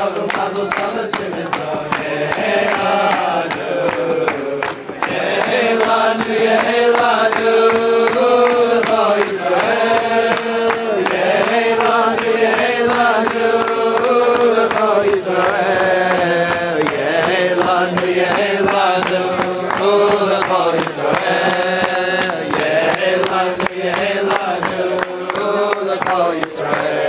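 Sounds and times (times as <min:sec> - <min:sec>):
group of people singing: 0:00.0 - 0:27.0
rhythmic clapping: 0:00.0 - 0:27.0.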